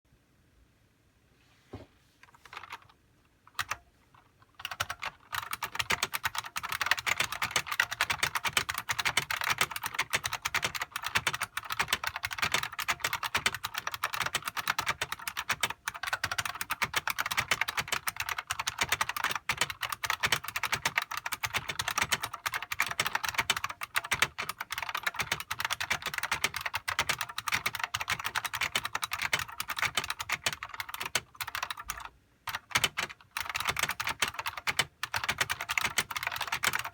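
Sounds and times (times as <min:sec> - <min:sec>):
buckling-spring keyboard typing: 0:02.2 - 0:36.9.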